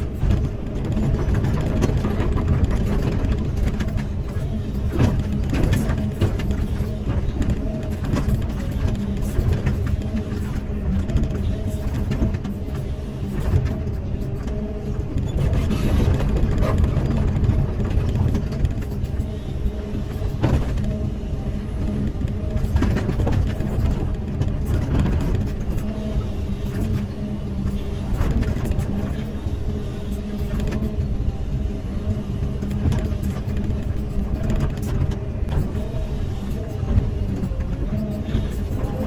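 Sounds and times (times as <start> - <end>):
excavator diesel engine: 0.0 - 39.0.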